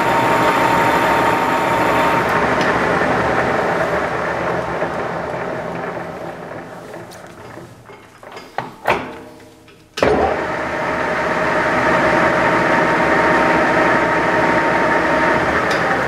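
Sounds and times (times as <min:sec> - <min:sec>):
metal lathe running: 0:00.0 - 0:08.5, 0:10.2 - 0:16.0.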